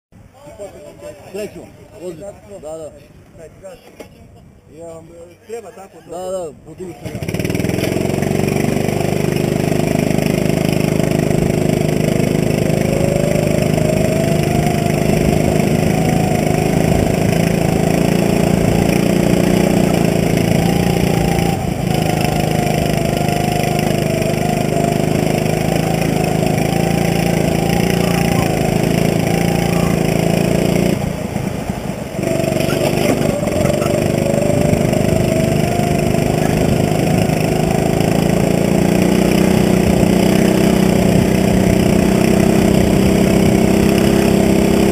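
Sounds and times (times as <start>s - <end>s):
go-kart engine revving: 6.9s - 44.9s.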